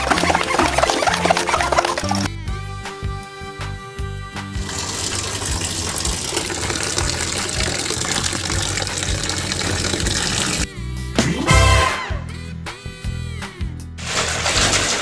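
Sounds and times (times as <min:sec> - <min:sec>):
background music with low beat: 0:00.0 - 0:14.0.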